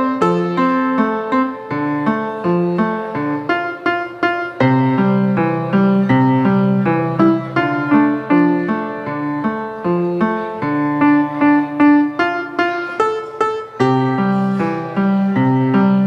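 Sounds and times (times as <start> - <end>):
piano-like keyboard music: 0.0 - 16.0.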